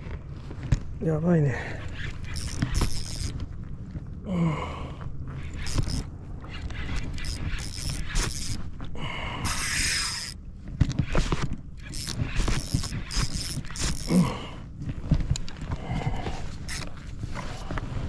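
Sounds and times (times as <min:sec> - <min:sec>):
fishing gear clicking and rattling: 0:01.6 - 0:04.0, 0:05.2 - 0:17.8.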